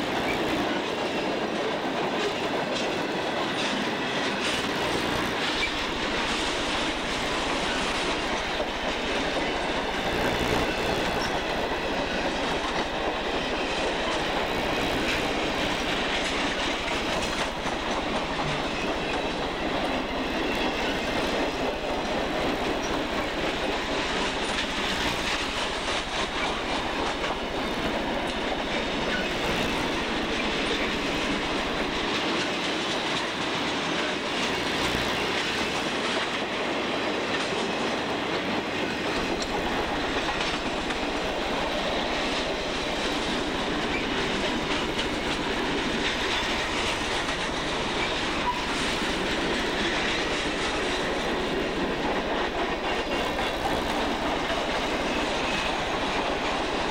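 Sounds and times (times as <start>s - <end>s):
train wheels rumbling on rails: 0.0s - 56.9s
wheels clacking over rail joints: 0.0s - 56.9s.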